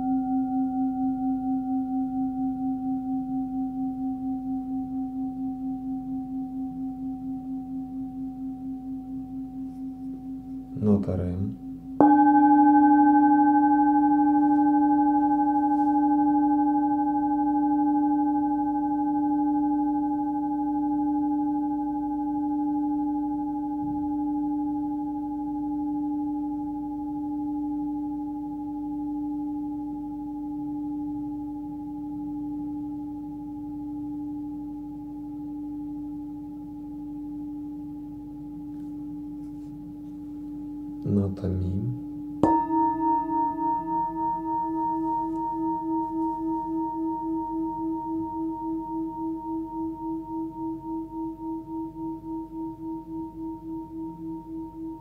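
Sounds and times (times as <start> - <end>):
singing bowl ringing: 0.0 - 55.0.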